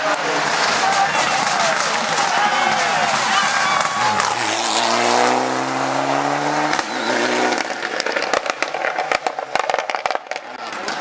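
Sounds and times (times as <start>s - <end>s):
exhaust pops and cracks: 0.0s - 11.0s
rally car engine revving: 0.3s - 10.2s.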